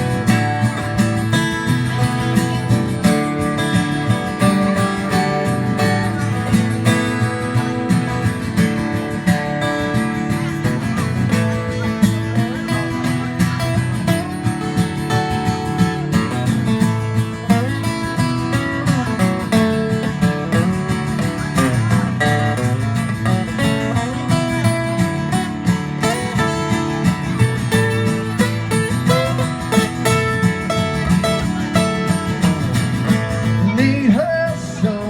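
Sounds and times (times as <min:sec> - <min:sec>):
acoustic guitar plucking: 0:00.0 - 0:35.0.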